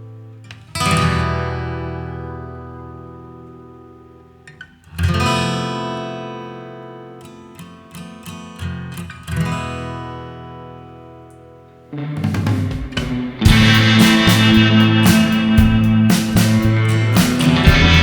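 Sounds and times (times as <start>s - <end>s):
acoustic guitar strummed chords: 0.0s - 18.0s.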